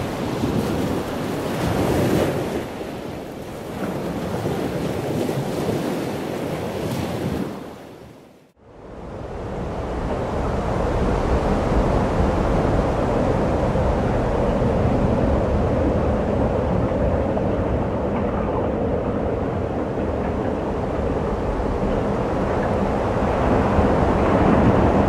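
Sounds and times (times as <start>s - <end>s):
ocean surf breaking: 0.0s - 8.3s, 9.2s - 25.0s.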